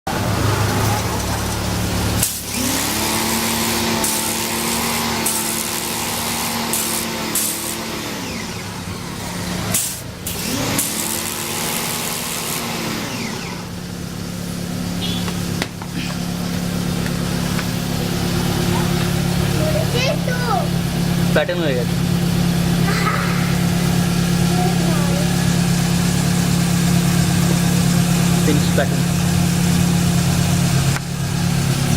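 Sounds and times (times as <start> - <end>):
pressure washer jet hissing: 0.1 - 31.9
washer motor hum: 0.1 - 31.9.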